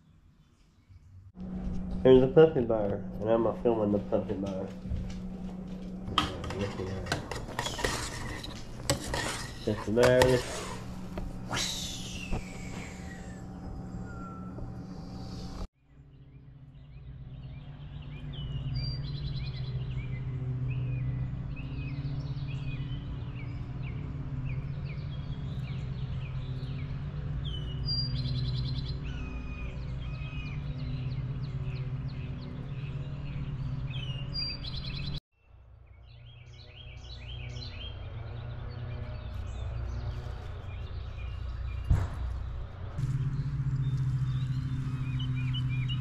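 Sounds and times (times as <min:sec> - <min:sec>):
low outdoor rumble: 0:01.1 - 0:35.2, 0:37.7 - 0:46.0
wild birds chirping and singing: 0:02.1 - 0:46.0.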